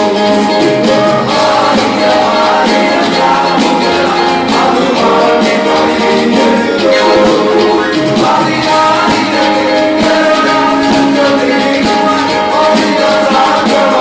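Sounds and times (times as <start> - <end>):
live band playing: 0.0 - 14.0
voices singing: 0.0 - 14.0.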